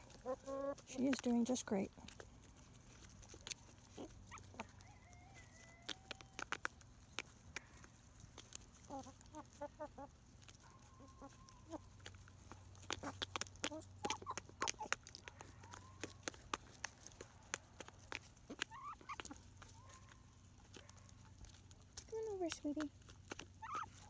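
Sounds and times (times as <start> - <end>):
chicken calls: 0.0 - 0.8, 3.2 - 21.6, 23.2 - 24.0.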